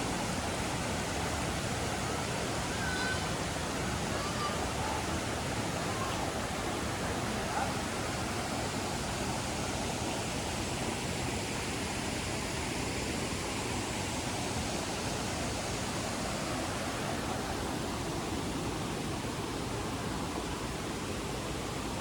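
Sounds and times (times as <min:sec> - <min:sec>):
cascading water rushing: 0:00.0 - 0:22.0.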